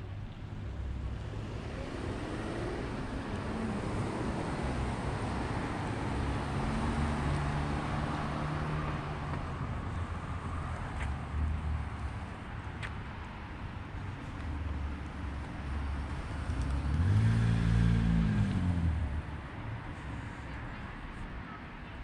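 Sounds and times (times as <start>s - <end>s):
car passing: 0.8s - 12.4s, 14.4s - 21.2s.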